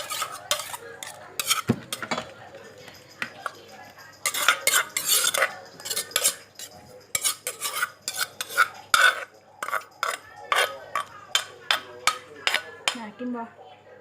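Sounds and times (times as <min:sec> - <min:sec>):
spoon scraping and clinking in bowl: 0:00.0 - 0:13.0.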